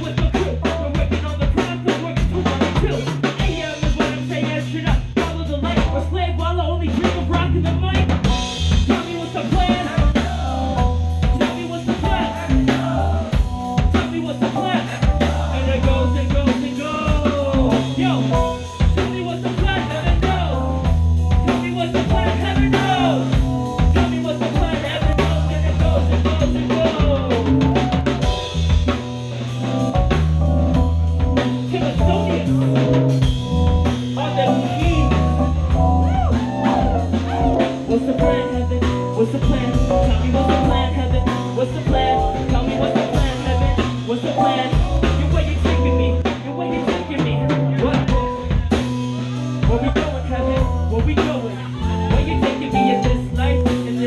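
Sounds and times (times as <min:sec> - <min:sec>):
rock band playing: 0:00.0 - 0:54.0
snare and bass drum beat: 0:00.0 - 0:54.0.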